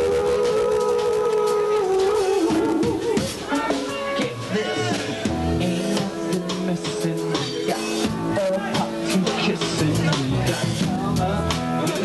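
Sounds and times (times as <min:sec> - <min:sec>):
drums: 0:00.0 - 0:12.0
rock band playing: 0:00.0 - 0:12.0.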